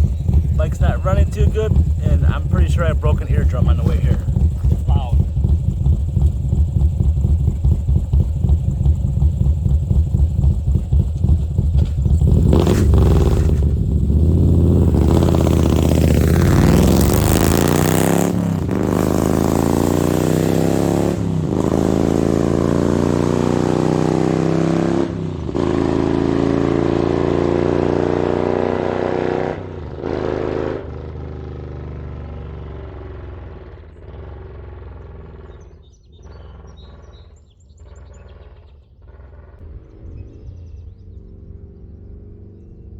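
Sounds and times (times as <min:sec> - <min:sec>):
motorcycle engine idling: 0:00.0 - 0:23.7, 0:30.9 - 0:42.9
motorcycle accelerating through gears: 0:00.0 - 0:42.9.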